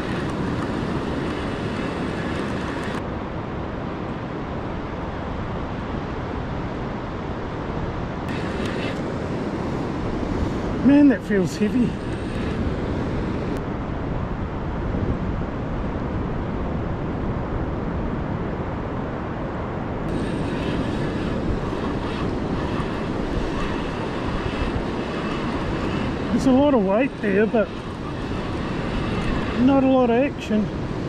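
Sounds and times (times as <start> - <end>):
wind: 0.0 - 31.0.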